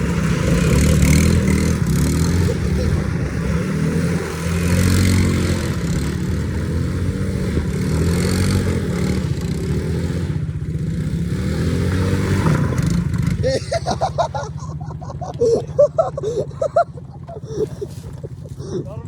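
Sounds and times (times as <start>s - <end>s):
small engine revving: 0.0s - 18.8s.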